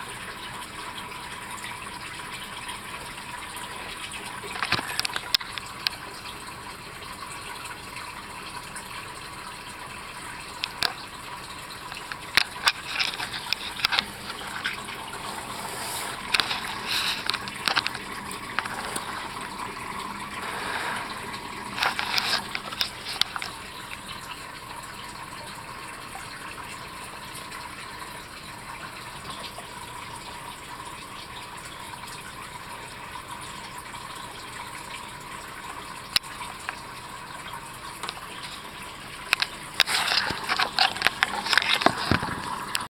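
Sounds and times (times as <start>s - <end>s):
aquarium filter gurgling water: 0.0s - 42.9s.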